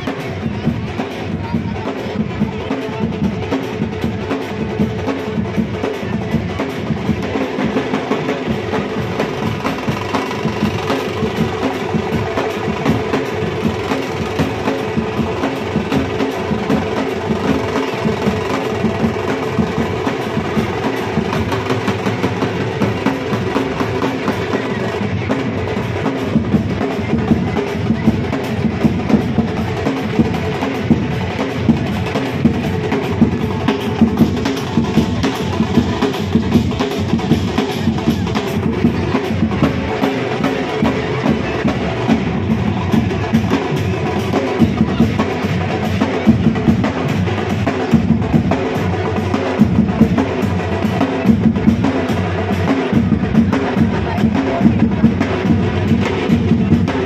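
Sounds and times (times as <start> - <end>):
drums beaten fast: 0.0 - 57.0.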